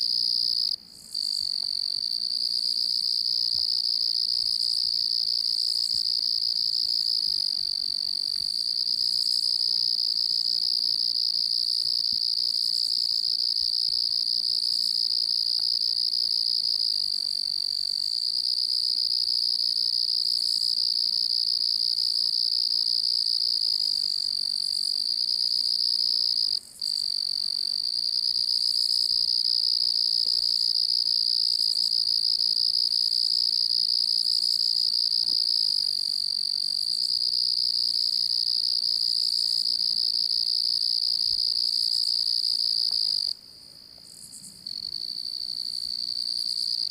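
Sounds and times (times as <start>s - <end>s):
crickets chirping: 0.0s - 46.9s.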